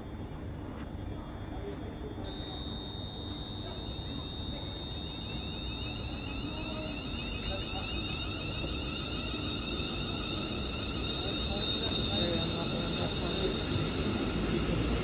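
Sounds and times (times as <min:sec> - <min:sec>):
low rumble of train: 0:00.0 - 0:15.0
electric train traction whine: 0:01.7 - 0:15.0.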